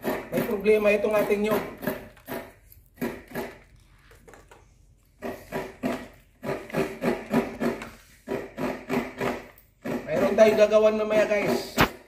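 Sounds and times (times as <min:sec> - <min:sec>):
coconut scraping on grater: 0:00.0 - 0:03.7, 0:05.2 - 0:11.8.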